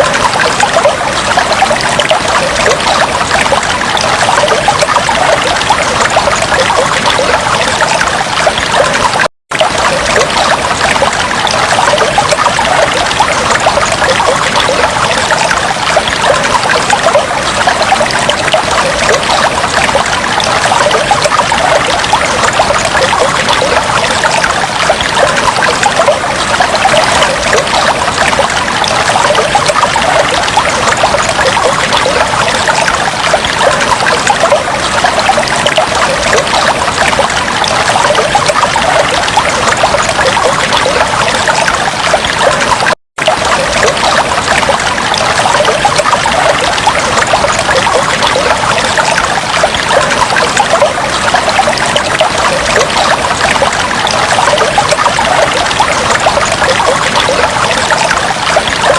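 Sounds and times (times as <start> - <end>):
aquarium water trickling and bubbling: 0.0 - 58.9.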